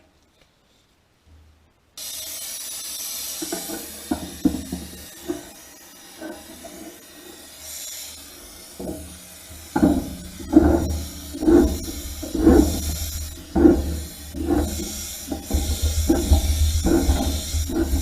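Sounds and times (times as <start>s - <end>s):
cutting torch hissing and popping: 2.0s - 18.0s.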